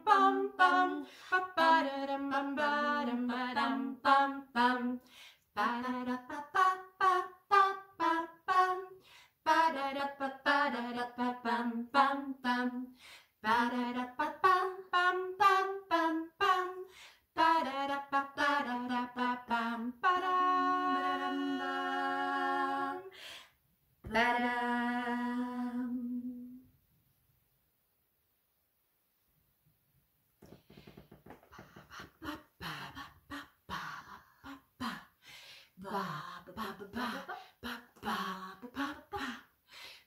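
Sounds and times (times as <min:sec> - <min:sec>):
women singing unaccompanied: 0:00.0 - 0:23.2, 0:24.0 - 0:26.6, 0:31.2 - 0:35.2, 0:35.8 - 0:39.9.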